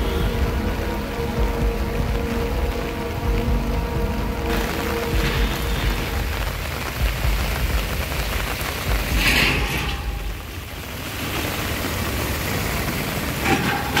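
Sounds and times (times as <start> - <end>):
floodwater running down a street: 0.0 - 14.0
heavy rain hissing: 0.0 - 14.0.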